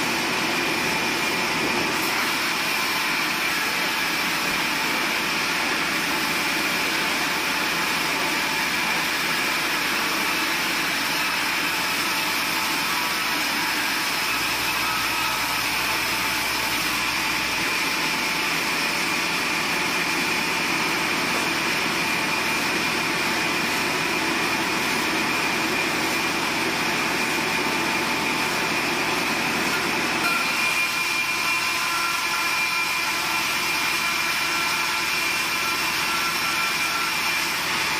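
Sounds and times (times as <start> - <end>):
band sawmill whining: 0.0 - 37.9.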